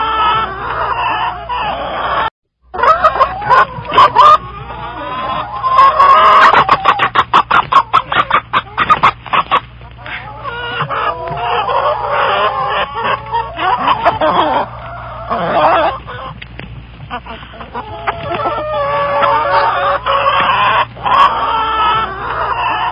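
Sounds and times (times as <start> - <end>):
chickens clucking and squawking: 0.0 - 22.9.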